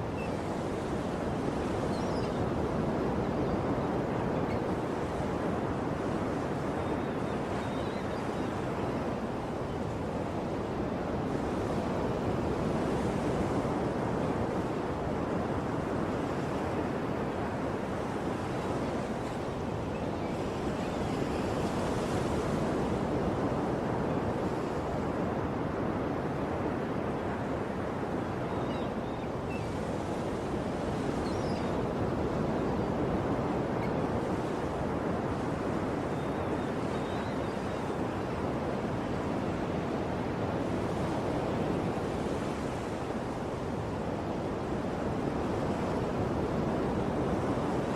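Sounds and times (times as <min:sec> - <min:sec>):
ocean waves: 0:00.0 - 0:47.9.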